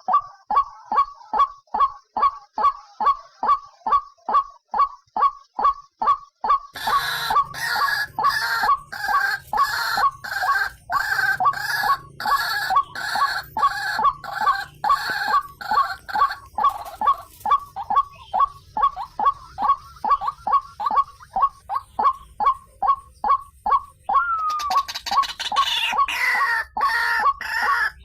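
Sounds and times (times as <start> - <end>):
waterhen croaking calls: 0.0 - 28.0.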